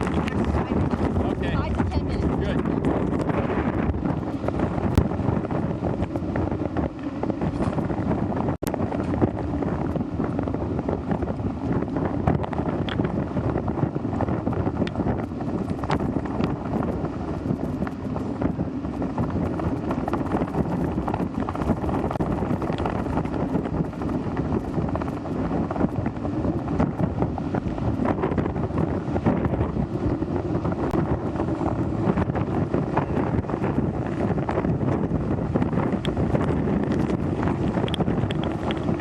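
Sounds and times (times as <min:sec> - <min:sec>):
buffeting crackles and knocks: 0:00.0 - 0:39.0
strong wind on microphone: 0:00.0 - 0:39.0.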